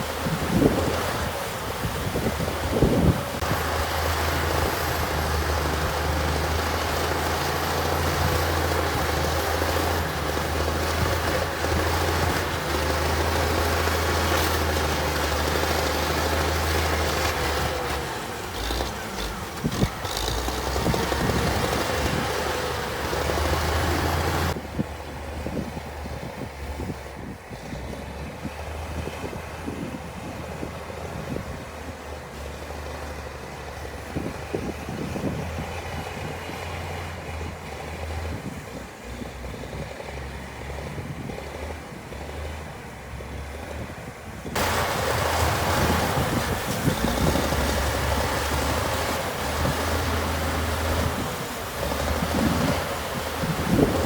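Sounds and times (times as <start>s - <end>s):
diesel engine deep rumble: 0.0s - 54.0s.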